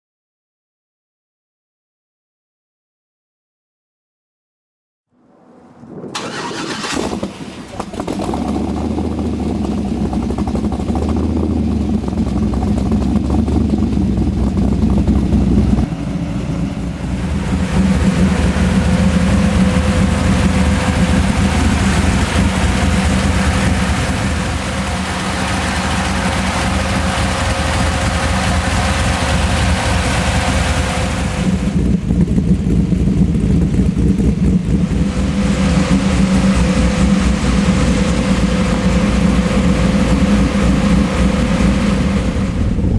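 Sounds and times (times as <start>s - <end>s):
truck engine running loud: 5.2s - 42.9s.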